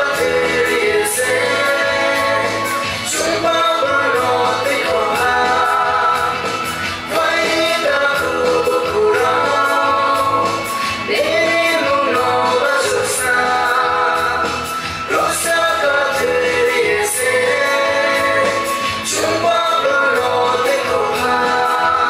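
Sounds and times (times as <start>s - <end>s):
dance song with singing: 0.0s - 22.0s.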